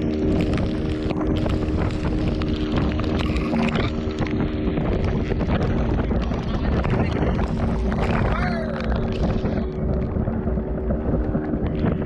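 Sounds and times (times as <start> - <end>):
boat engine humming: 0.0 - 12.0
wind noise on microphone: 0.0 - 12.0.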